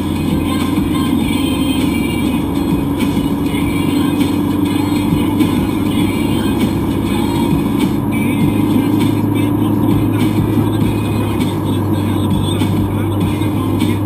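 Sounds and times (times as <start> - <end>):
car engine hum: 0.0 - 14.0
road noise inside car: 0.0 - 14.0.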